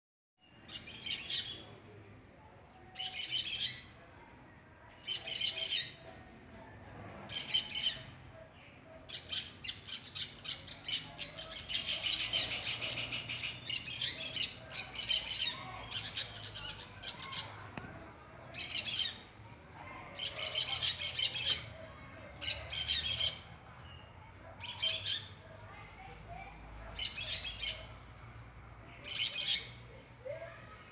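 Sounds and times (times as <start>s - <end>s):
birds chirping: 0.4s - 30.9s.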